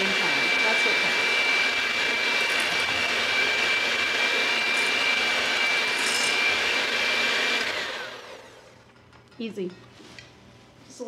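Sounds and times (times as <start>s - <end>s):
electric hand mixer whirring: 0.0s - 8.9s.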